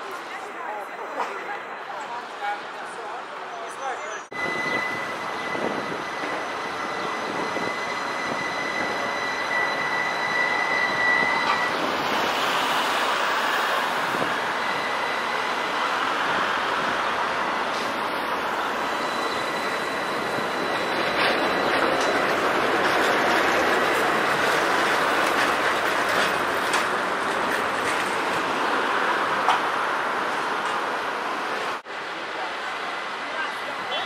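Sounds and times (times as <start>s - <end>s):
passing traffic: 0.0s - 34.0s
tram wheels on rails: 0.0s - 34.0s
tram wheels squealing: 3.7s - 31.8s.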